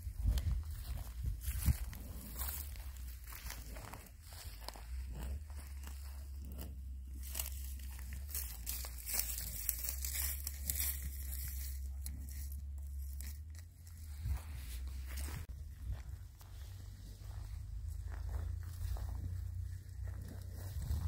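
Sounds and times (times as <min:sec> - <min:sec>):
cow tearing and chewing grass: 0:00.0 - 0:21.0
low rumble: 0:00.0 - 0:21.0.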